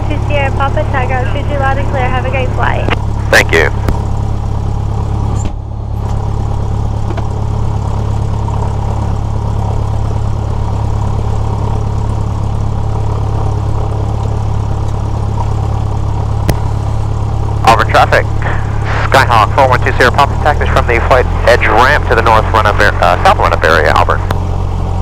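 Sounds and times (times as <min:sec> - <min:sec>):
aircraft engine and propeller idling: 0:00.0 - 0:25.0.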